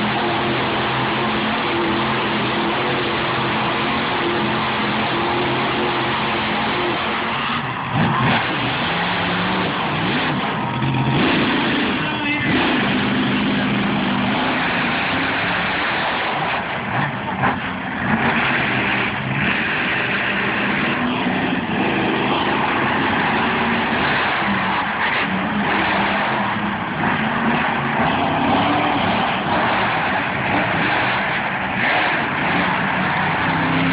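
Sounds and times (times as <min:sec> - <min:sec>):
monster truck engines revving: 0:00.0 - 0:33.9.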